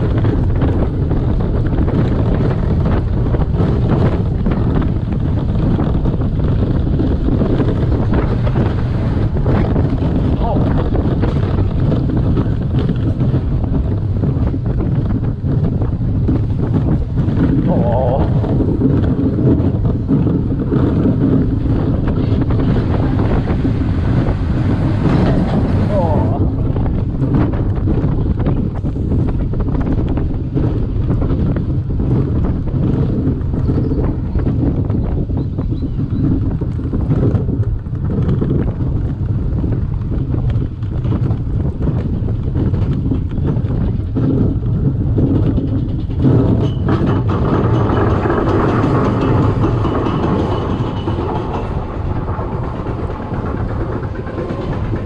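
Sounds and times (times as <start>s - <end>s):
low rumble: 0.0s - 55.0s
wind buffeting microphone: 0.0s - 55.0s.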